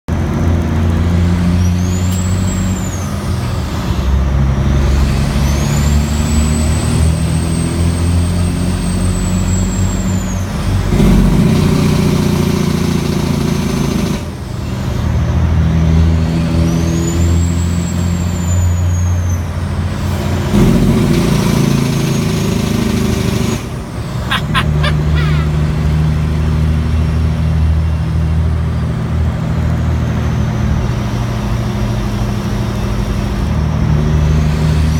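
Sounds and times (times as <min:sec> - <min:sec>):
diesel truck engine drone: 0:00.1 - 0:34.9.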